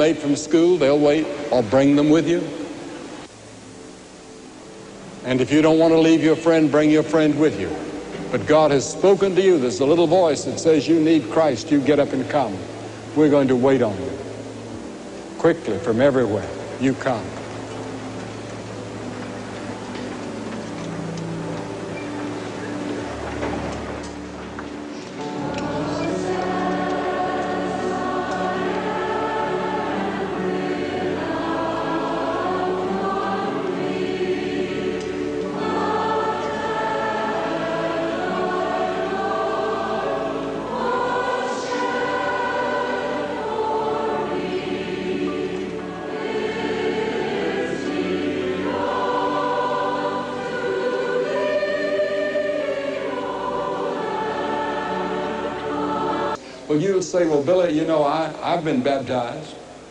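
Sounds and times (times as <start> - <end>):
choir singing a slow hymn: 0.0 - 59.9.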